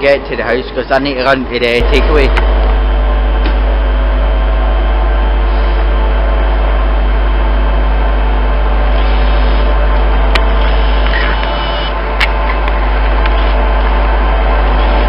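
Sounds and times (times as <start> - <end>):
electric train hum and rumble: 0.0 - 15.0
steady electrical tones: 0.0 - 15.0.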